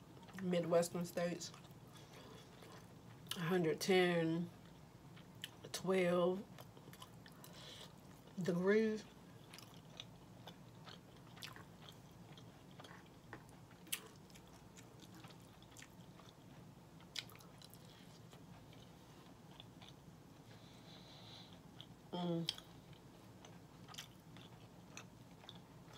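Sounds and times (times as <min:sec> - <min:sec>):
faint low hum: 0:00.0 - 0:25.9
quiet chewing: 0:01.4 - 0:03.4, 0:06.4 - 0:08.4, 0:09.0 - 0:25.9.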